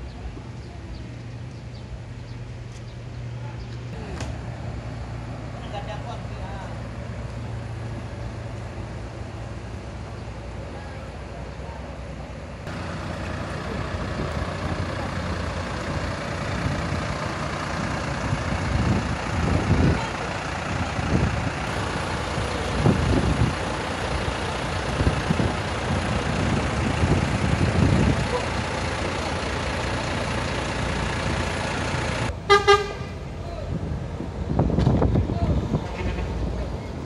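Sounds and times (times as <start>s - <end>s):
coach engine and road noise: 0.0s - 37.0s
low rumbles: 0.0s - 37.0s.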